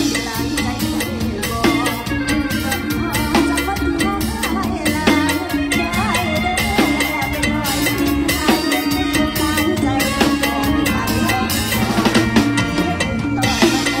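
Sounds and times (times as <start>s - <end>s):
band music: 0.0s - 14.0s
drum kit hits: 0.0s - 14.0s.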